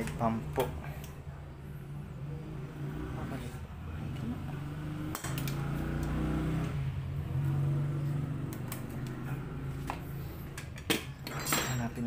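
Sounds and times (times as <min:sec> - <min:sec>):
motor vehicle engine hum: 0:00.0 - 0:11.2.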